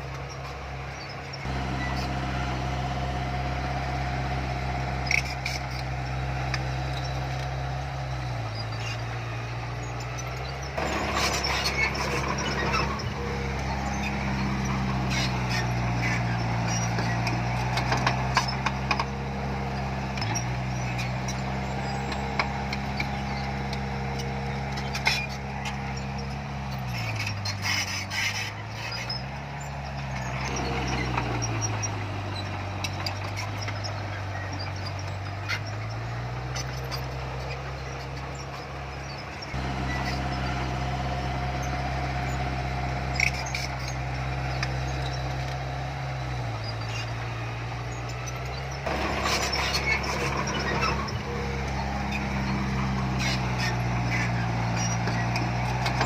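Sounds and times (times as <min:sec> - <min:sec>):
diesel earthmover engine under load: 0:00.0 - 0:56.0.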